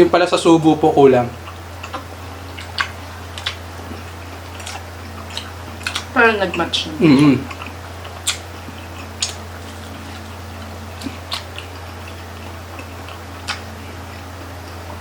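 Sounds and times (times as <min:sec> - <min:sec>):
low hum: 0:00.0 - 0:15.0
mouth smacks while eating: 0:01.4 - 0:06.1, 0:07.2 - 0:15.0.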